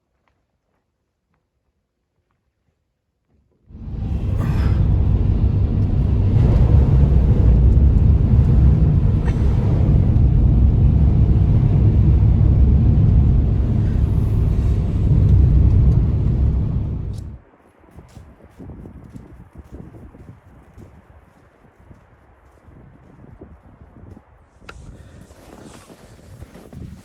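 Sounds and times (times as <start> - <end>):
strong storm wind blowing: 3.7 - 27.0.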